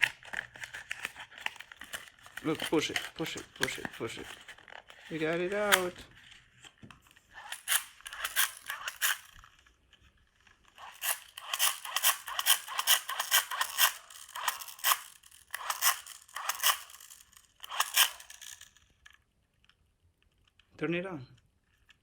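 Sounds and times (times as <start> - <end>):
hard plastic scraping and rattling: 0.0 - 19.2.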